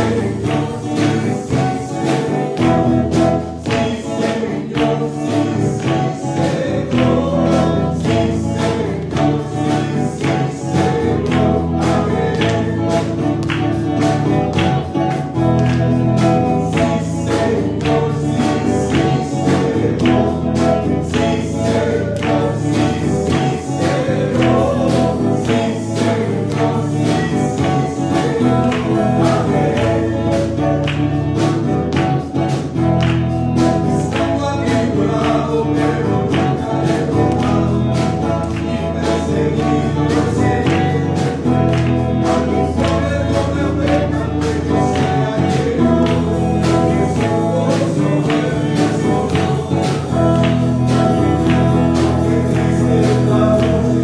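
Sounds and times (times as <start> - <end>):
band backing with steady beat: 0.0 - 54.0
person singing into microphone: 0.0 - 54.0.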